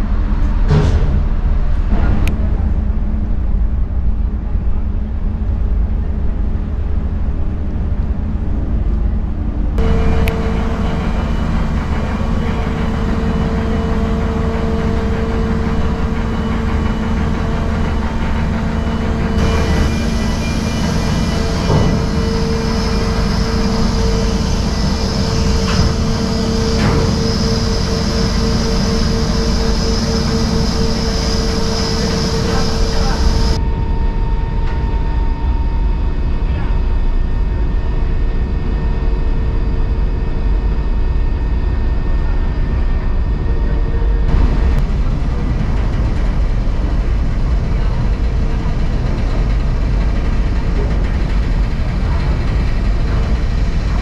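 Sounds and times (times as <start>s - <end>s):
ferry engines rumbling: 0.0s - 54.0s
steady hum: 0.0s - 54.0s.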